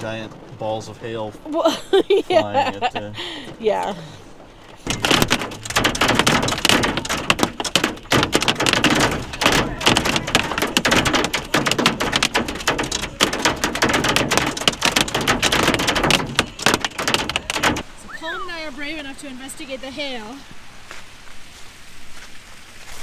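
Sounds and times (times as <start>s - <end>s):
hail and rain on vehicle: 0.0s - 19.7s.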